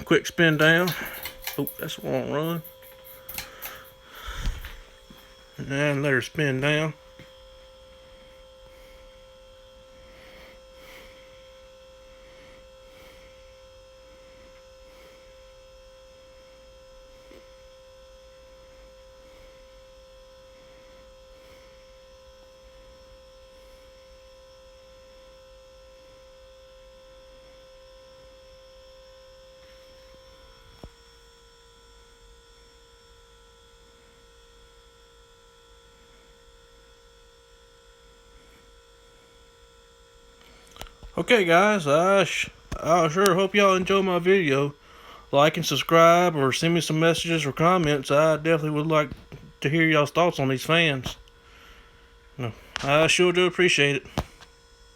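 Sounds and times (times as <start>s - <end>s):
steady high hum: 0.0s - 54.9s.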